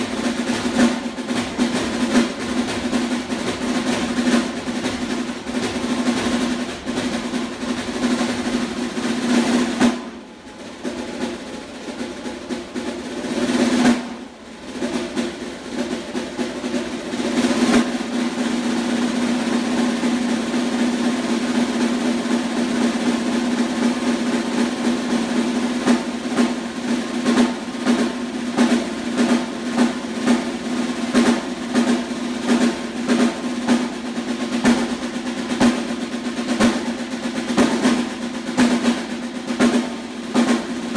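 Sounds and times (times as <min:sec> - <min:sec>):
snare drum rolls: 0:00.0 - 0:40.9.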